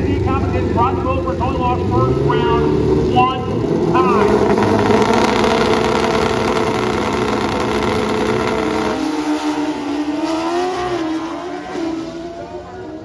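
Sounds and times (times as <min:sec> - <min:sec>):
drag racing motorcycles: 0:00.0 - 0:13.0.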